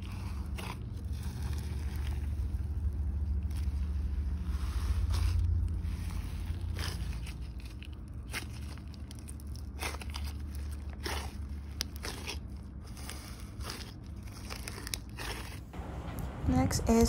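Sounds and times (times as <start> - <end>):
slime crunching and crackling: 0.0 - 15.8.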